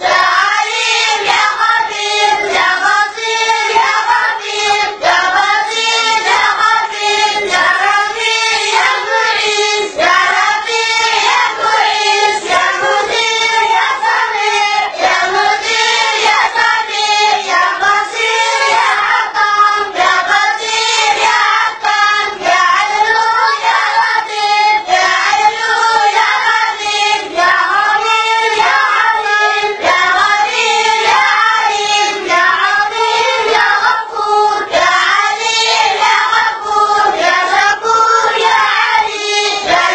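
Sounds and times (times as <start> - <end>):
boys chanting in unison: 0.0 - 39.9.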